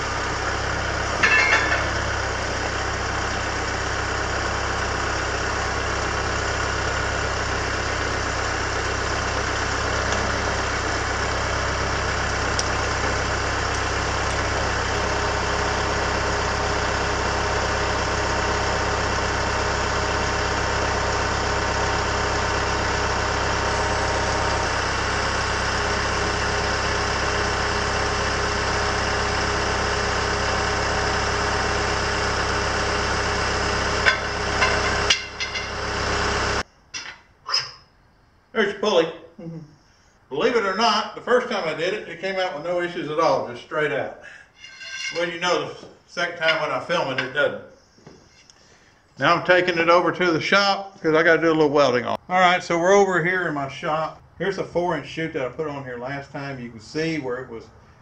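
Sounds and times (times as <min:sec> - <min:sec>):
tractor engine idling: 0:00.0 - 0:37.4, 0:39.9 - 0:58.0.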